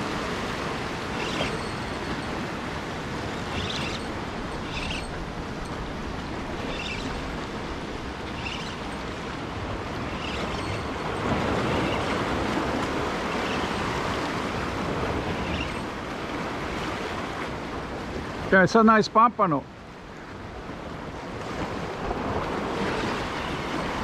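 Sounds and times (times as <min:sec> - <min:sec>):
surf washing against rocks: 0:00.0 - 0:24.0.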